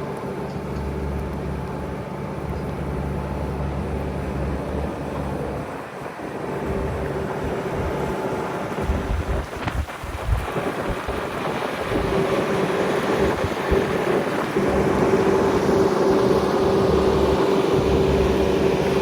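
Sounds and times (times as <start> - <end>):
diesel engine running: 0.0 - 9.8, 11.8 - 19.0
wind buffeting microphone: 0.8 - 19.0.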